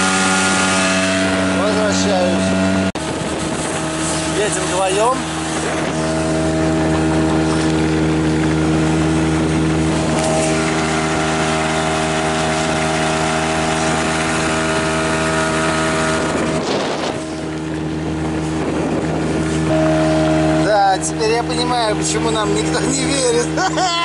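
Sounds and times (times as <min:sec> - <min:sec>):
outboard motor running: 0:00.0 - 0:24.0
water and wind rushing: 0:00.0 - 0:24.0.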